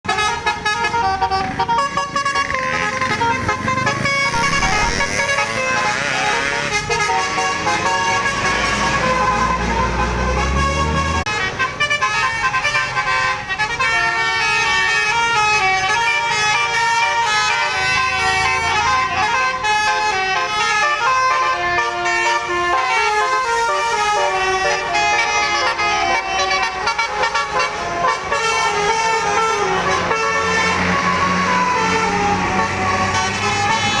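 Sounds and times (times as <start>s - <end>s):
multi-tone bus horn melody: 0.1s - 34.0s.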